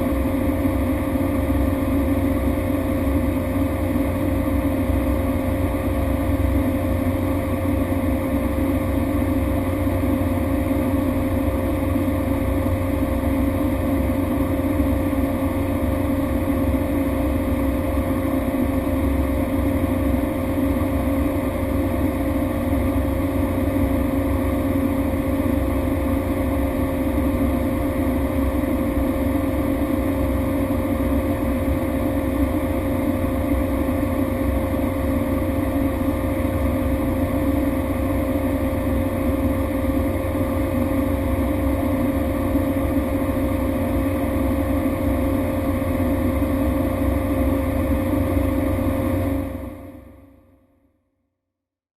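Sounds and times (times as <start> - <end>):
turboprop engine droning: 0.0 - 50.7.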